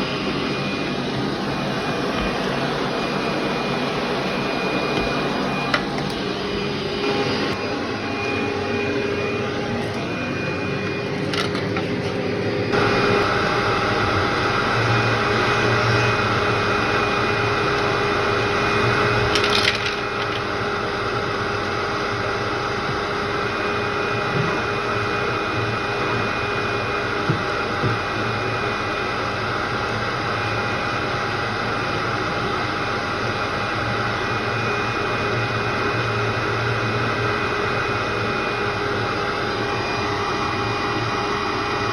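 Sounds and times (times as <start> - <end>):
vacuum cleaner motor whine: 0.0 - 41.9.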